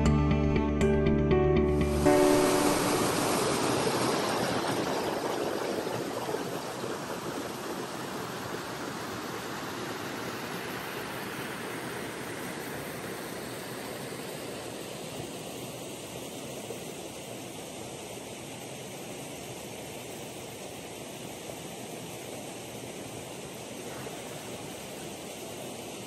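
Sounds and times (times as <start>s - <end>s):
river rushing over rocks: 1.9s - 26.0s.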